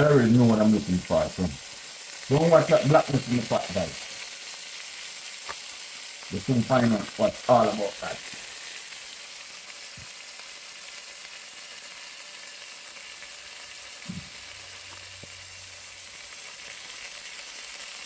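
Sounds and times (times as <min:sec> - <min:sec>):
frying sizzle with pops: 0:00.0 - 0:18.0.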